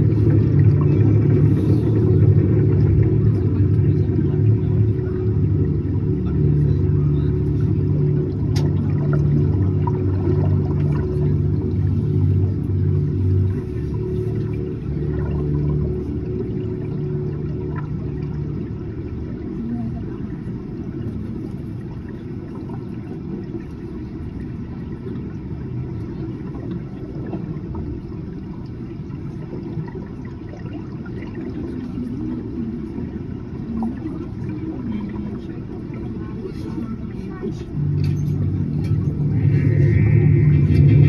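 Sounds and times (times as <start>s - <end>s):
submarine cabin rumble: 0.0s - 41.0s.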